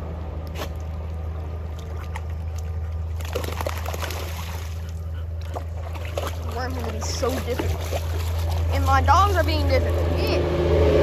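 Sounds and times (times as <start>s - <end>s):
steady low rumble: 0.0s - 11.0s
water sloshing and splashing: 0.4s - 10.4s.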